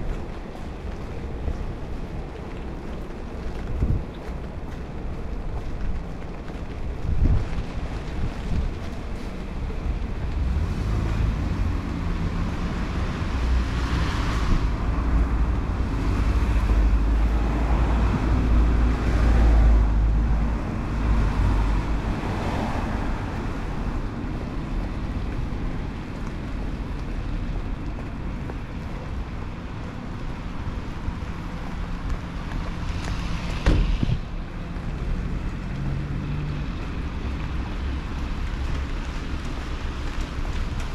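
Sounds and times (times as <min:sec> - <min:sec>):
steady traffic noise: 0:00.0 - 0:40.9
vehicle passing on wet street: 0:00.0 - 0:40.9.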